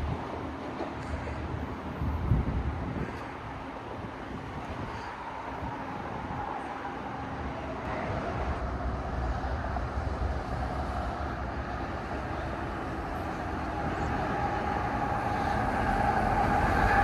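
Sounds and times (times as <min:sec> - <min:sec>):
train rumbling by: 0:00.0 - 0:17.0.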